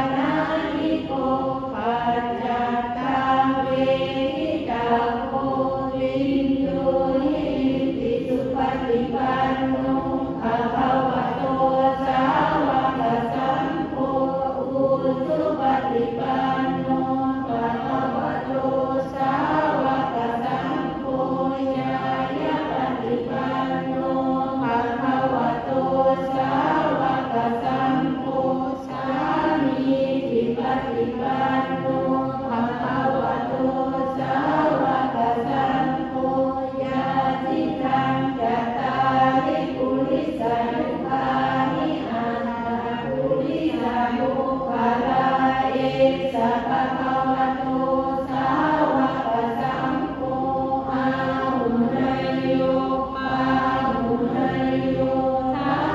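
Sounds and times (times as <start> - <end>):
group chanting prayers in unison: 0.0 - 55.9.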